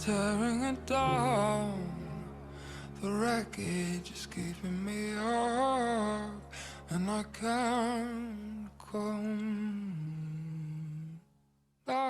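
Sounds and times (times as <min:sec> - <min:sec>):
slowed reverb-heavy pop vocal: 0:00.0 - 0:11.2
steady low drone: 0:00.0 - 0:11.2.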